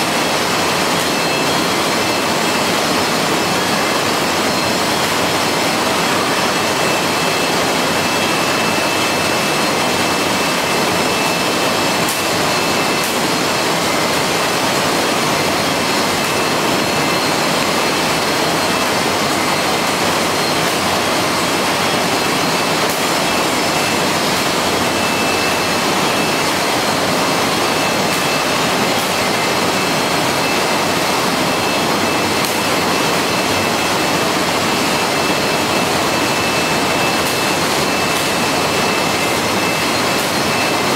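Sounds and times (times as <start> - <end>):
machinery running: 0.0 - 40.9.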